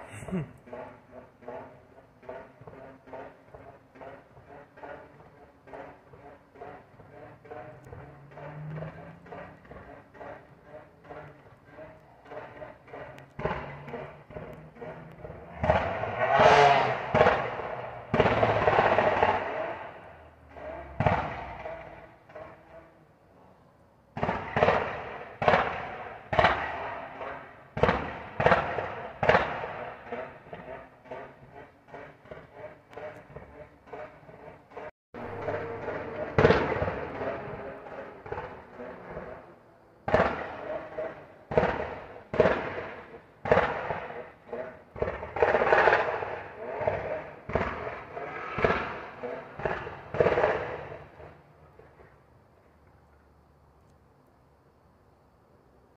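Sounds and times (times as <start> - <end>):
car exhaust backfiring: 0.0 - 23.4, 24.2 - 51.9.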